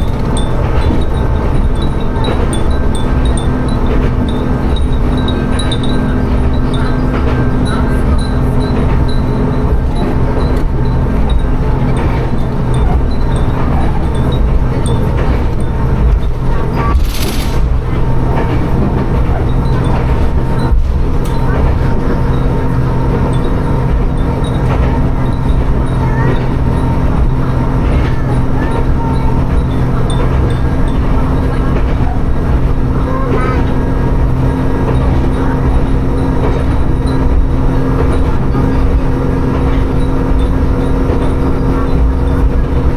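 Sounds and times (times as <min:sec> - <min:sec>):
diesel railcar rumbling: 0:00.0 - 0:42.9.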